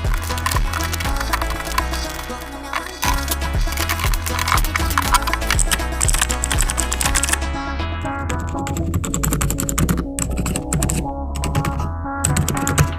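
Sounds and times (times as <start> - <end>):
mechanical keyboard typing: 0.0 - 7.4, 8.6 - 12.9
music with heavy bass beat: 0.0 - 12.9.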